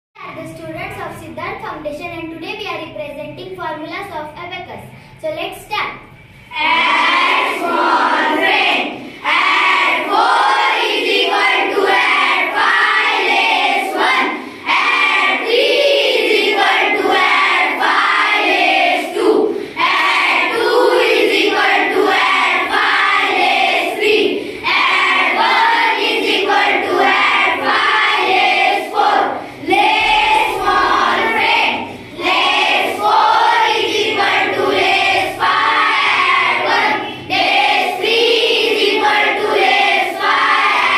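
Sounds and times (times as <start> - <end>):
children chanting in unison: 6.4 - 40.9.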